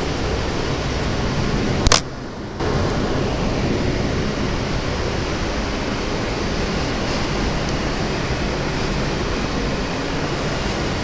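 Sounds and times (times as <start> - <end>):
subway car rumbling on track: 0.0 - 11.0.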